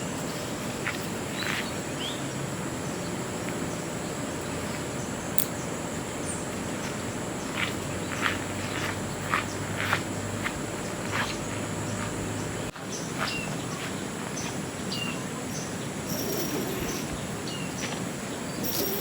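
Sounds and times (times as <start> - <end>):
birds chirping: 0.0 - 19.0
insects trilling: 0.0 - 19.0.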